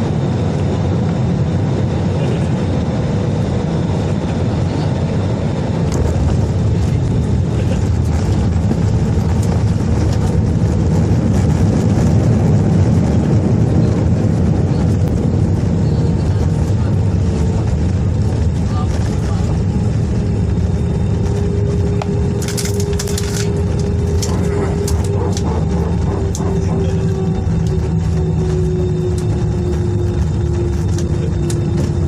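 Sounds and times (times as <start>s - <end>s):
jet engine roar in cabin: 0.0s - 32.0s.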